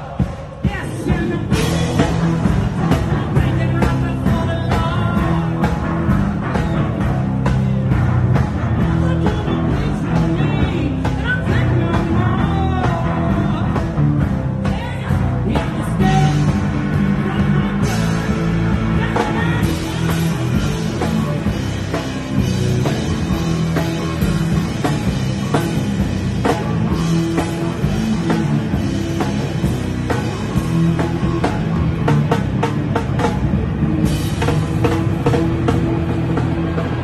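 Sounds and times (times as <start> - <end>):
electric guitar: 0.0 - 37.0.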